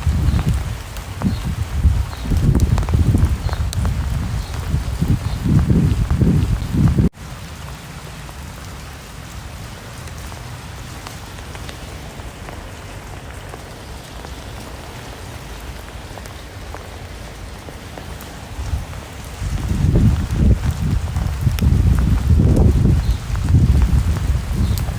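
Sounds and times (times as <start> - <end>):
rain falling: 0.0 - 24.9.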